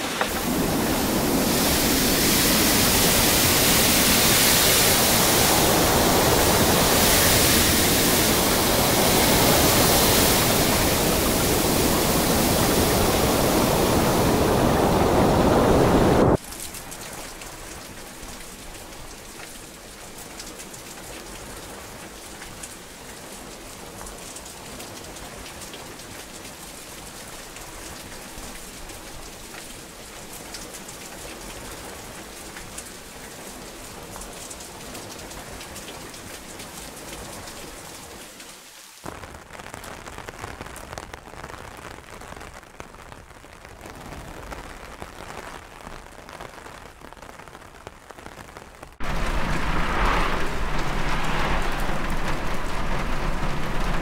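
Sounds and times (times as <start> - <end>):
heavy rain hiss: 0.0 - 54.0
light rainfall with drop ticks: 0.0 - 54.0.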